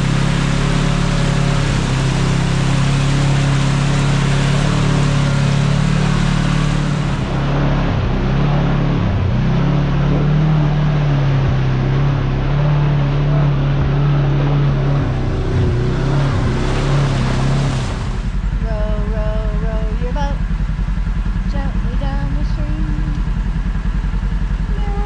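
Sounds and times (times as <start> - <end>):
vehicle engine running: 0.0 - 25.0
wide noisy rush: 0.0 - 25.0.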